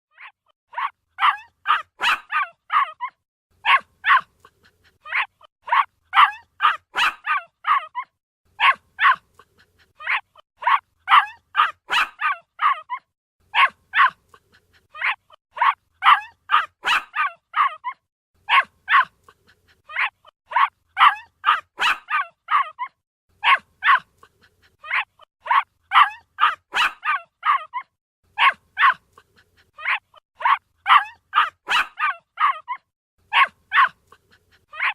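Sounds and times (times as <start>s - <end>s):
puppy yapping: 0.1s - 34.9s.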